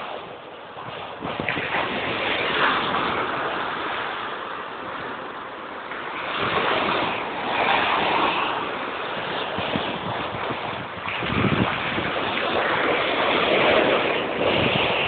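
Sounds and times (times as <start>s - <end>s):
big waves breaking: 0.0s - 15.0s.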